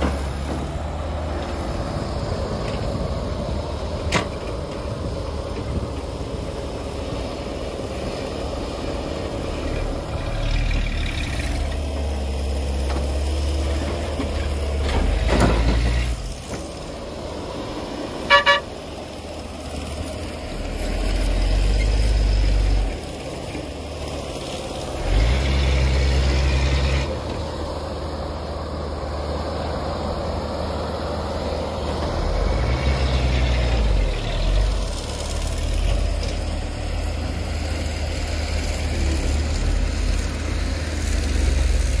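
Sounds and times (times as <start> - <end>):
truck diesel engine revving: 0.0 - 42.0.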